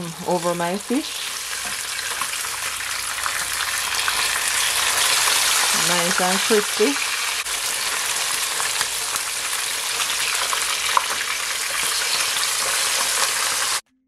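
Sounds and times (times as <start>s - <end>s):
fish deep-frying sizzle: 0.0s - 13.8s
oil popping and crackling: 0.0s - 13.8s.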